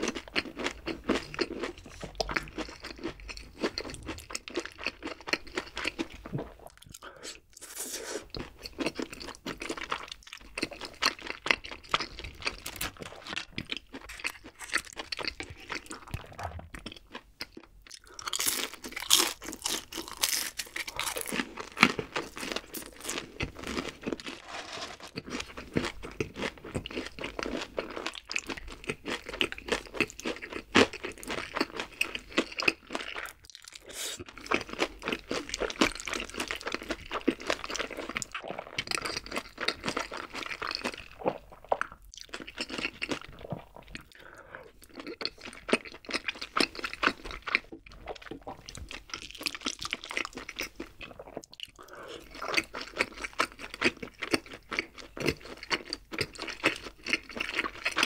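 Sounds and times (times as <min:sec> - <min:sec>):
chewing and crunching fried food: 0:00.0 - 0:58.0.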